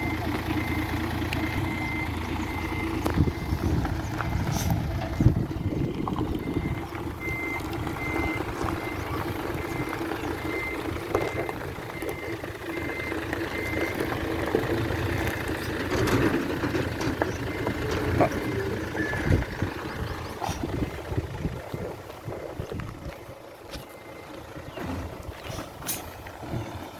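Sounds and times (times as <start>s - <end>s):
backup alarm beeping: 0.0s - 25.5s
engine running: 0.0s - 26.9s.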